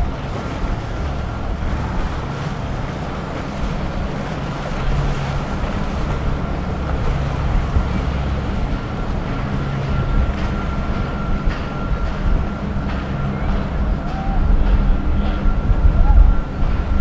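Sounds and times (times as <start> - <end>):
outboard engines humming: 0.0 - 17.0
water washing along hull: 0.0 - 17.0
wind noise on microphone: 0.0 - 17.0.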